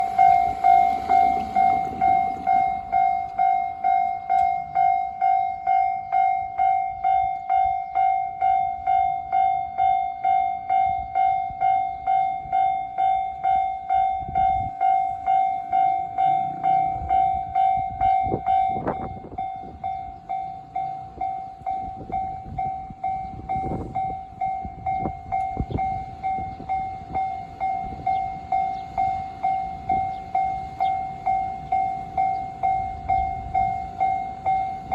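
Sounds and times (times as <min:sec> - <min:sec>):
level crossing warning bell: 0:00.0 - 0:34.9
train knocking and rumbling: 0:00.0 - 0:34.9.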